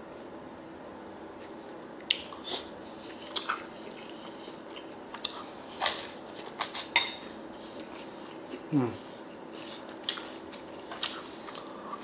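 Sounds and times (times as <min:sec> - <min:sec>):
person chewing food: 0:01.4 - 0:12.0.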